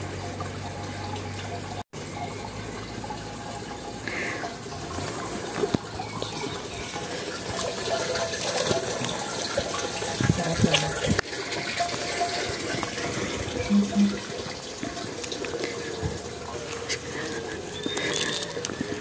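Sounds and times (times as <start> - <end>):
running splashing water: 0.0 - 19.0.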